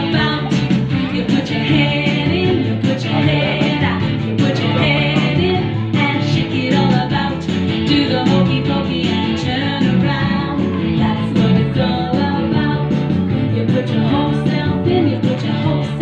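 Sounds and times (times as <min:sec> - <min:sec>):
pop song with singing and guitar: 0:00.0 - 0:16.0.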